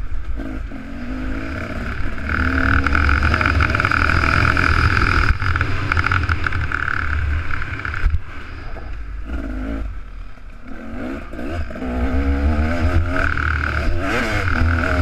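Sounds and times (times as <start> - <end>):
two-stroke motocross engine revving: 0.2 - 8.4, 9.2 - 15.0.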